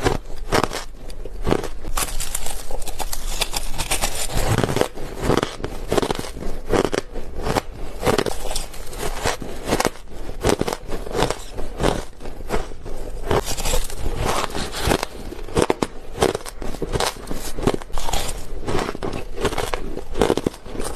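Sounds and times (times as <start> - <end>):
ice being chewed: 0.0 - 20.9.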